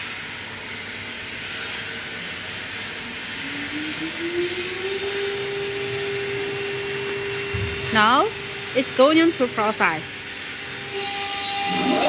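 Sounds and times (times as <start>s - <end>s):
spindle motor whine: 0.0s - 12.0s.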